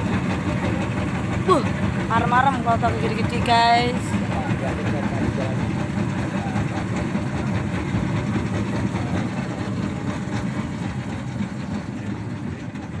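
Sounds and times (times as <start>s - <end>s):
ship engine rumble: 0.0s - 13.0s.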